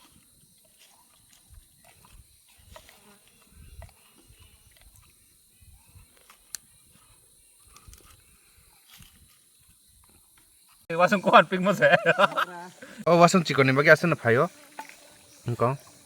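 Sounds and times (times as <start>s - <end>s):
high-pitched insect drone: 2.0s - 16.0s.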